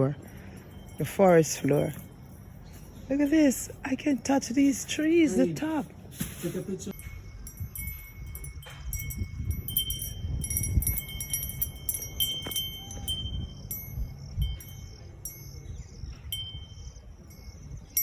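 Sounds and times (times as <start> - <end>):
chimes tinkling: 0.0 - 5.6, 6.9 - 18.0.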